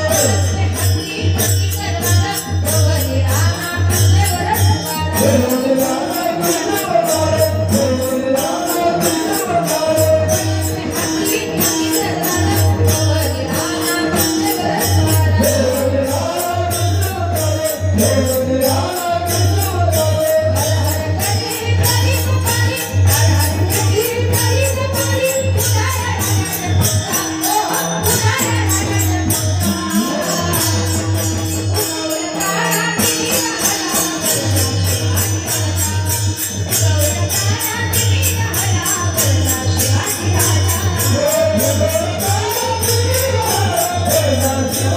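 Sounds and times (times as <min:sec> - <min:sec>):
jingling percussion: 0:00.0 - 0:44.9.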